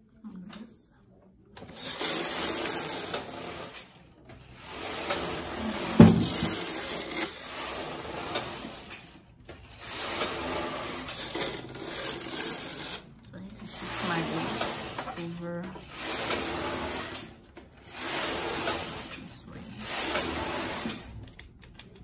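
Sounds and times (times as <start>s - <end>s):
knitting machine carriage clattering: 1.6s - 22.0s.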